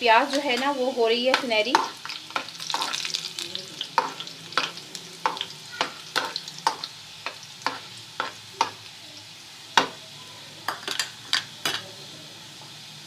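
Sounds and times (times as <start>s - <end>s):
onion sizzling in a pan: 0.0s - 13.0s.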